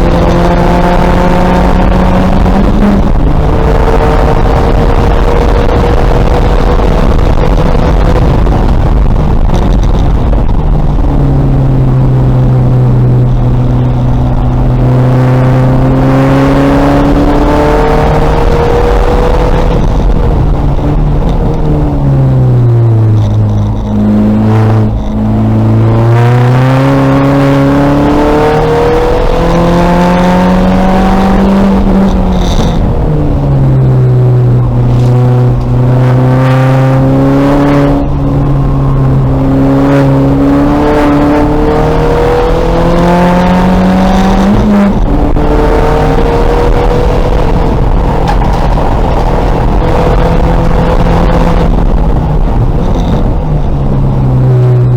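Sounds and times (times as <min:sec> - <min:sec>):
race car engine running hard: 0:00.0 - 0:54.9.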